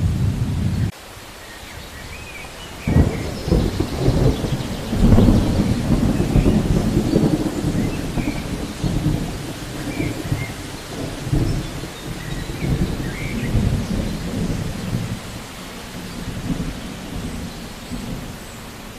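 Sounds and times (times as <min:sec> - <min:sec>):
low rolling thunder: 0:00.0 - 0:00.9, 0:02.0 - 0:18.9
steady rain: 0:00.0 - 0:18.9.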